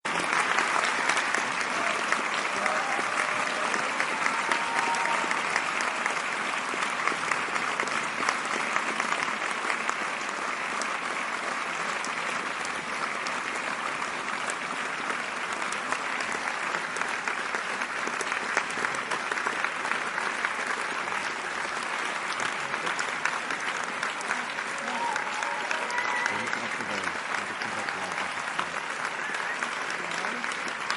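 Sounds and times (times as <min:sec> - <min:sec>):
audience applauding: 0:00.0 - 0:30.9.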